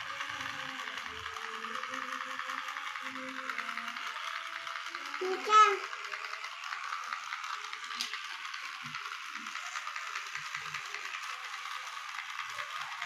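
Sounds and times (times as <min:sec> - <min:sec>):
plastic gears clicking: 0:00.0 - 0:13.0
toy train motor whirring: 0:00.0 - 0:13.0.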